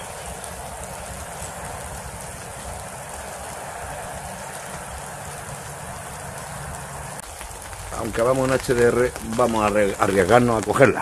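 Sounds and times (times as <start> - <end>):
raindrops hitting camera: 0.0 - 11.0
steady rain falling: 0.0 - 11.0.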